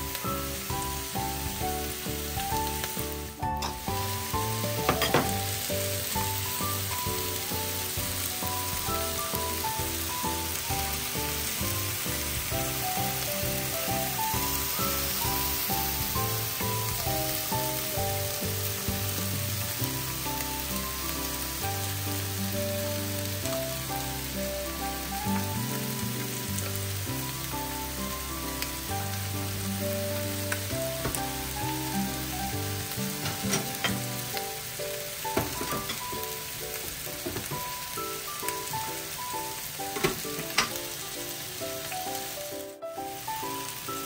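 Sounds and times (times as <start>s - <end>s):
meat sizzling in a frying pan: 0.0s - 44.0s.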